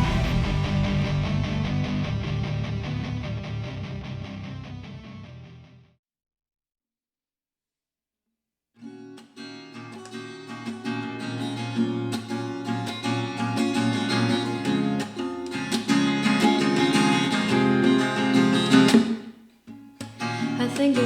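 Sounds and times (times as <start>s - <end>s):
acoustic guitar strummed and plucked: 0.0s - 5.5s, 8.8s - 21.0s.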